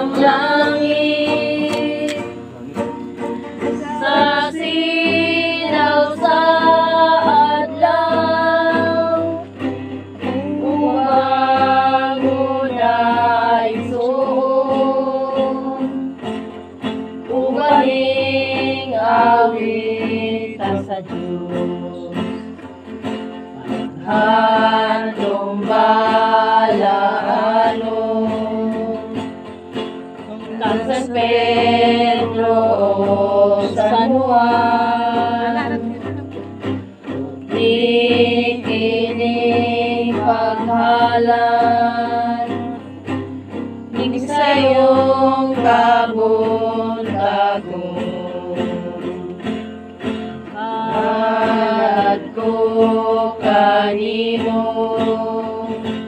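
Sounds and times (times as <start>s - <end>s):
group of voices singing: 0.0s - 56.0s
guitar accompaniment: 0.0s - 56.0s.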